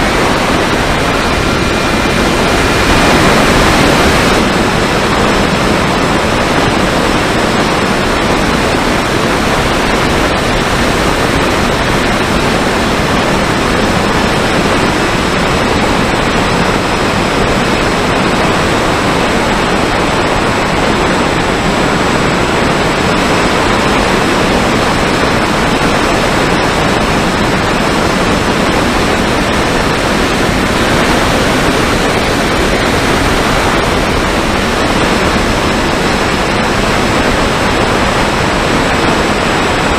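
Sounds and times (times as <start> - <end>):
propeller noise: 0.0 - 39.9
wind rushing: 0.0 - 39.9.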